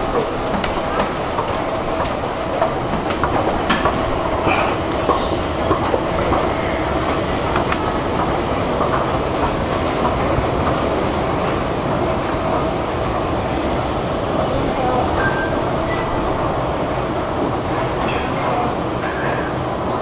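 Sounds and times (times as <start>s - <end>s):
sharp escalator clack: 0.0s - 20.0s.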